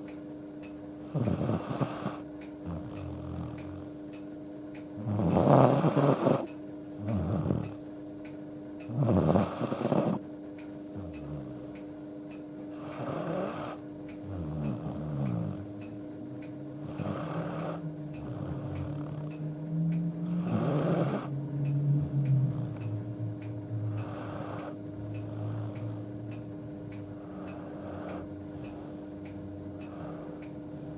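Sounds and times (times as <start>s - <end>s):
dog snoring: 1.0s - 4.1s, 5.0s - 7.9s, 8.8s - 11.8s, 12.7s - 15.8s, 16.8s - 26.4s, 27.0s - 29.1s, 29.8s - 30.9s.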